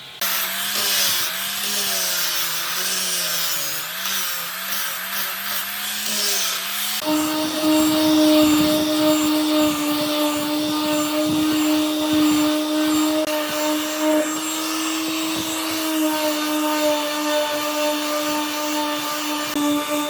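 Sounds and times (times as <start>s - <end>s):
power tool motor whine: 0.0s - 20.0s
tool hissing on wood: 0.0s - 20.0s.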